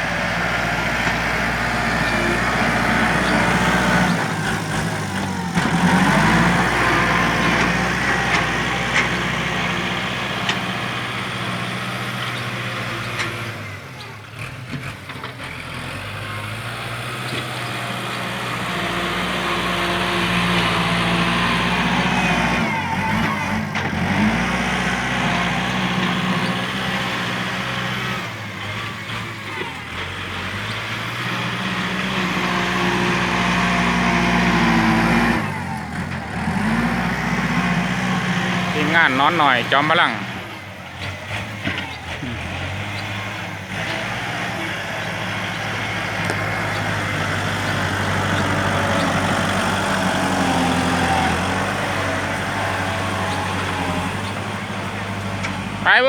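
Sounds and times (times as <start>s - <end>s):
tractor engine revving: 0.0s - 56.0s.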